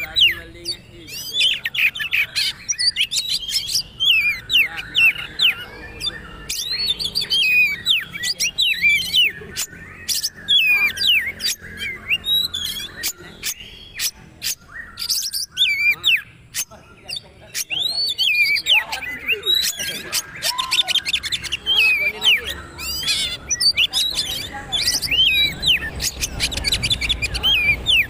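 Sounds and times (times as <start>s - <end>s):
bird singing whistled notes: 0.0s - 16.8s, 17.6s - 28.0s.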